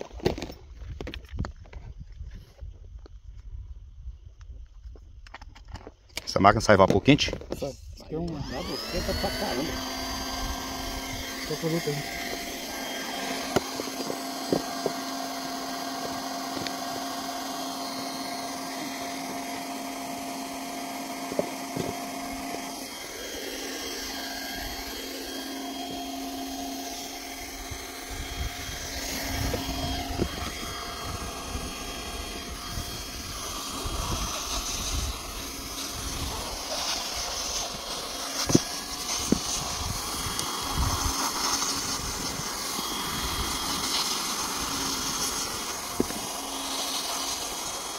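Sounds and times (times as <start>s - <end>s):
hot-air welding gun hum and hiss: 7.6s - 47.9s.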